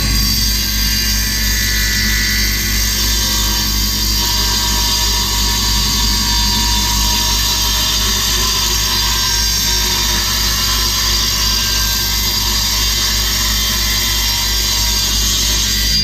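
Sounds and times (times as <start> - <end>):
power tool cutting wood: 0.0 - 16.0.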